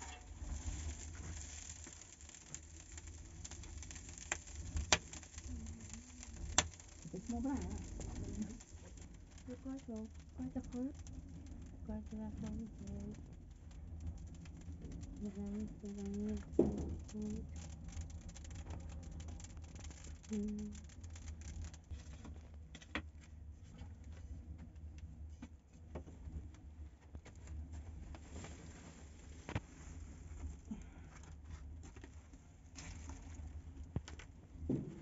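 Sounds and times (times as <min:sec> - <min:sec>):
fire crackles and pops: 0:00.0 - 0:35.0
wood fire rumbling: 0:00.0 - 0:35.0.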